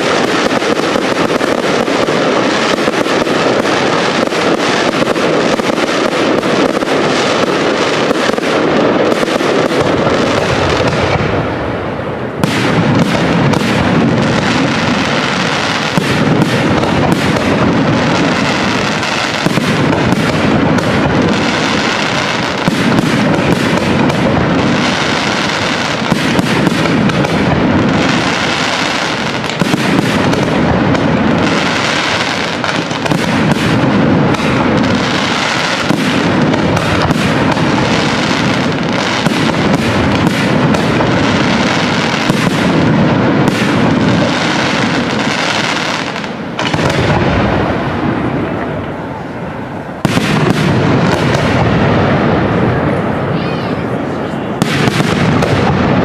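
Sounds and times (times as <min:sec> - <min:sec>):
sharp firework bangs: 0:00.0 - 0:53.1, 0:54.6 - 0:56.0
firework booms: 0:00.0 - 0:56.0
firework crackle: 0:00.0 - 0:56.0.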